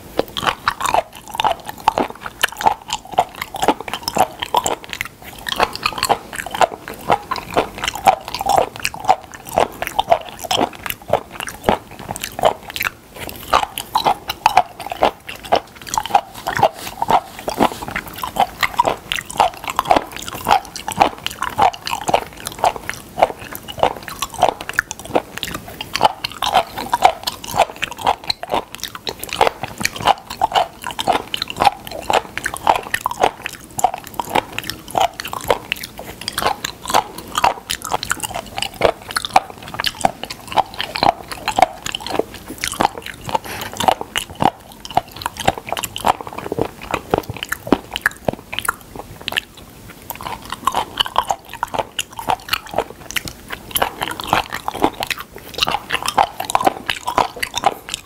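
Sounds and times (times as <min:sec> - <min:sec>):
chewing with sharp clicks: 0:00.0 - 0:58.0.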